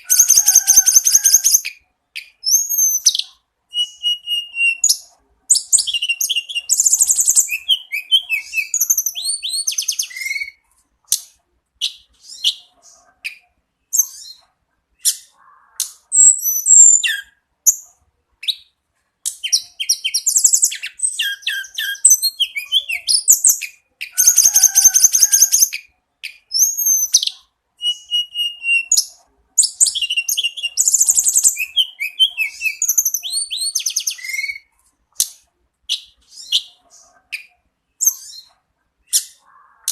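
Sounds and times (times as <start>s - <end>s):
songbird singing trills and whistles: 0.0s - 18.7s, 19.3s - 39.9s.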